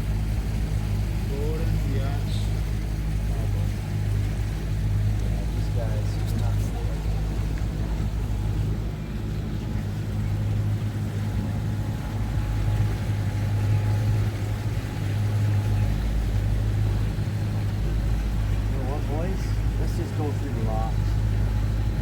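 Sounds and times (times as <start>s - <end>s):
motorboat engine humming: 0.0s - 22.0s
water wash: 0.0s - 22.0s.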